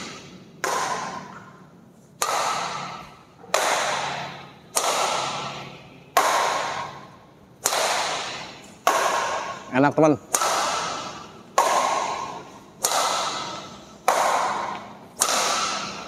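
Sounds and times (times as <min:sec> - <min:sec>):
badminton racket hitting shuttlecock: 0:00.0 - 0:09.7, 0:10.3 - 0:16.0.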